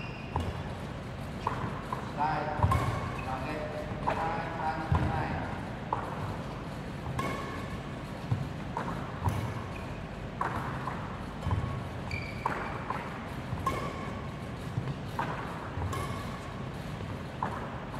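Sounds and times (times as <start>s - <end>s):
racket striking shuttlecocks: 0.0s - 5.2s, 5.8s - 17.9s
shoes squeaking on court: 0.0s - 5.2s, 5.9s - 17.9s.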